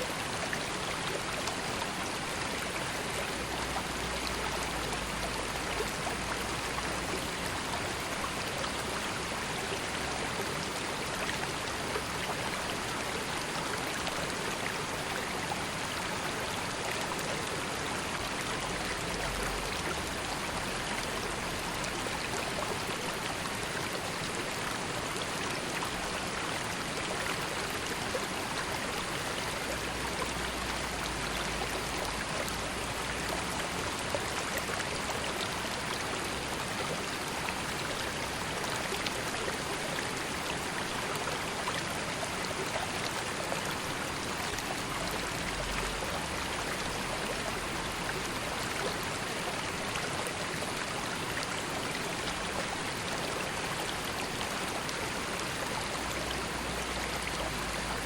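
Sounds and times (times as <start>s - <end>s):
river babbling over stones: 0.0s - 58.0s.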